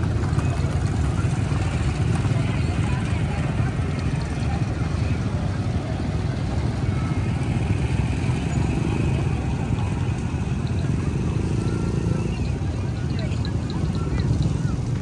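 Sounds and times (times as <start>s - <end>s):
city street traffic: 0.0s - 15.0s
motorcycles passing: 0.0s - 15.0s
murmur of voices: 0.0s - 15.0s.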